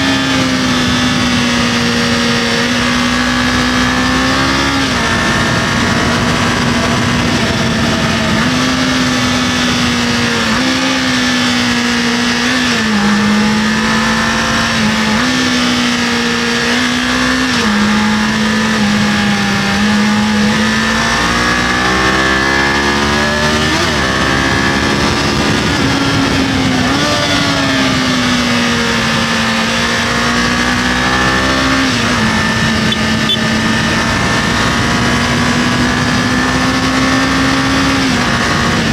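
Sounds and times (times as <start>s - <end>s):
motorcycle engine revving: 0.0s - 38.9s
road and wind noise: 0.0s - 38.9s.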